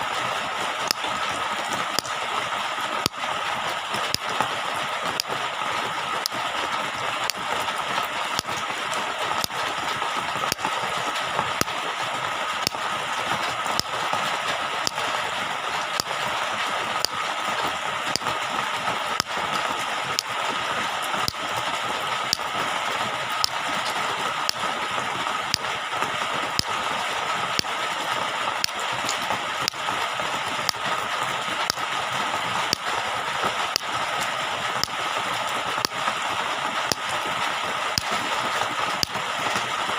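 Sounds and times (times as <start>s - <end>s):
small high clicks and ticks: 0.0s - 39.9s.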